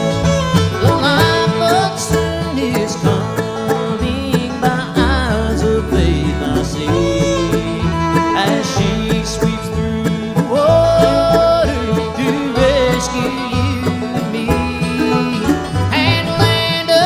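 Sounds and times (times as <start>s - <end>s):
strummed acoustic guitars: 0.0s - 17.0s
upright bass: 0.0s - 17.0s
man singing: 0.8s - 17.0s.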